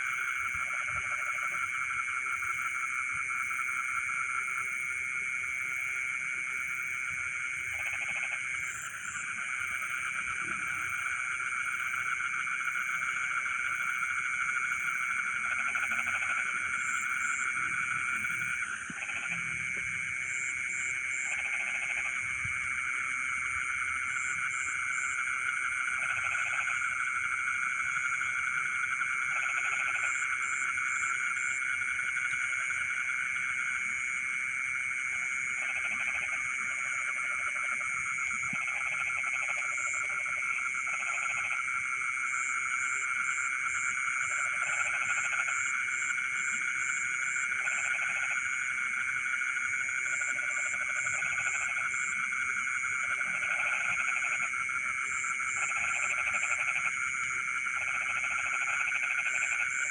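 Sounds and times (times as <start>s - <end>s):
frogs and insects trilling: 0.0s - 59.9s
low frog croak: 0.0s - 59.9s.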